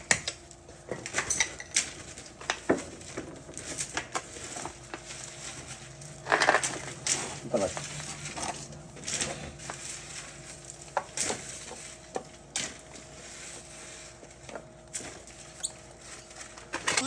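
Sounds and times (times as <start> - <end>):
scraping and rustling: 0.9 - 17.0.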